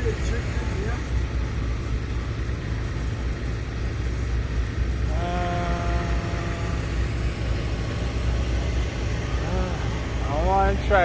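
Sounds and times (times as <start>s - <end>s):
low engine-like rumble: 0.0s - 11.0s.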